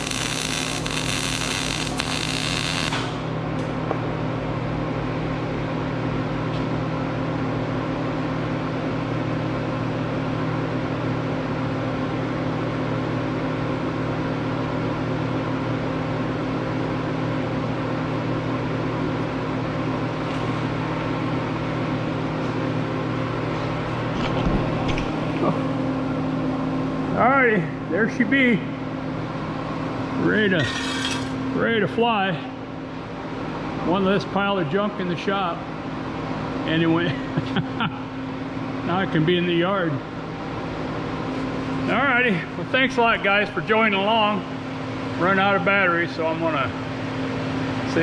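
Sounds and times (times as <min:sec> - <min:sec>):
low machine hum with tones: 0:00.0 - 0:48.0.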